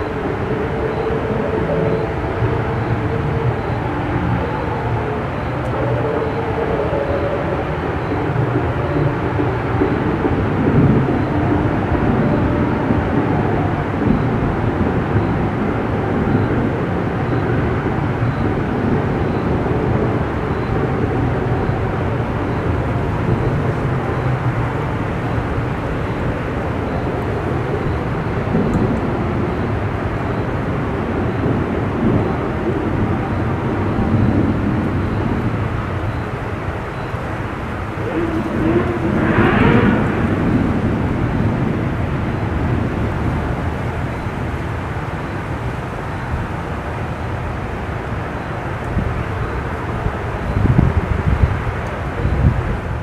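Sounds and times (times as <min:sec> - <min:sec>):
strong storm wind blowing: 0:00.0 - 0:53.0
thunder rumbling: 0:00.0 - 0:53.0.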